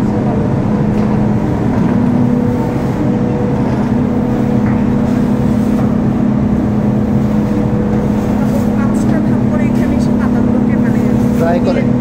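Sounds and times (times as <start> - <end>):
electric motors droning: 0.0 - 12.0.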